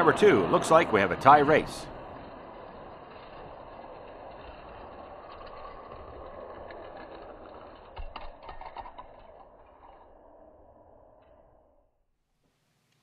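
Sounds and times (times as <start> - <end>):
toy cars rattling along plastic track: 0.0 - 11.8
toy cars clacking: 0.1 - 11.7.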